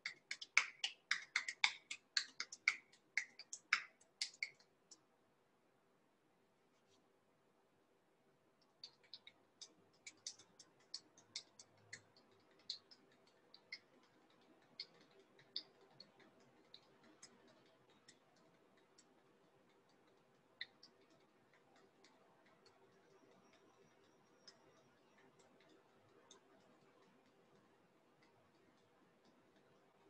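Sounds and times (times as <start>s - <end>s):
faint room hum: 0.0s - 30.0s.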